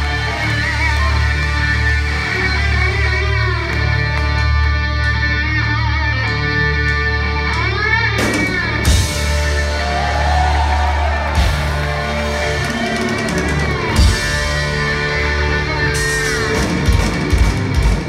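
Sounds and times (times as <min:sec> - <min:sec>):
electric guitar with bent notes: 0:00.0 - 0:09.9, 0:11.0 - 0:18.0
bass: 0:00.0 - 0:18.0
metal band playing live: 0:00.0 - 0:18.0.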